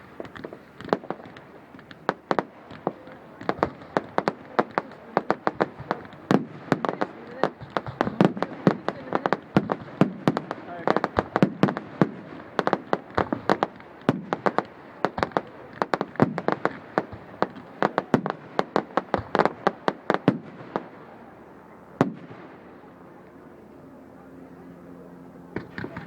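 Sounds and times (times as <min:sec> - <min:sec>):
fireworks bangs: 0:00.0 - 0:21.1, 0:25.6 - 0:26.0.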